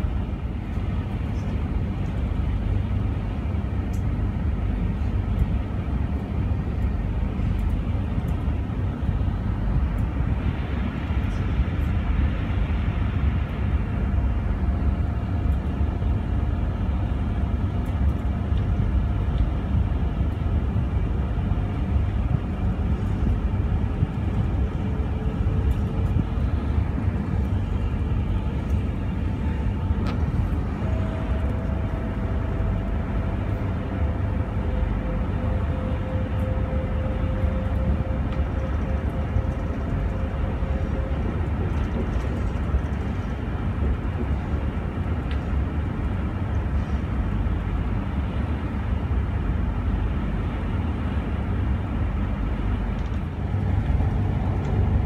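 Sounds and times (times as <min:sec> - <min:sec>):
train rumble inside carriage: 0:00.0 - 0:55.0.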